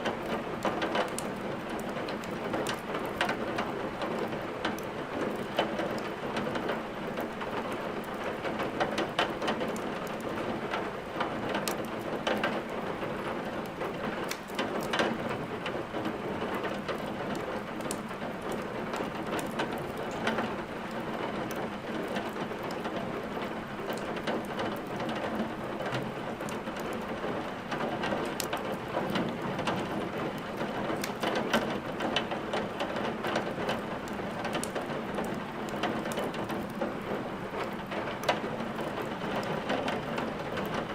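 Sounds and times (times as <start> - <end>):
steady rain falling: 0.0 - 40.9
wood fire crackling and popping: 0.0 - 40.9.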